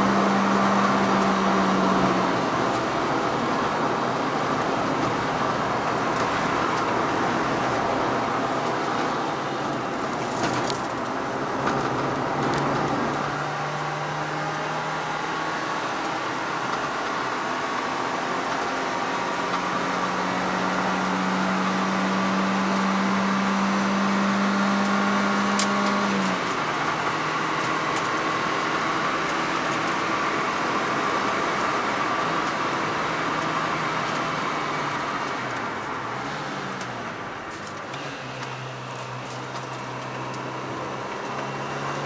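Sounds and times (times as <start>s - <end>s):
car engine: 0.0s - 42.0s
tyre and road noise: 0.0s - 42.0s.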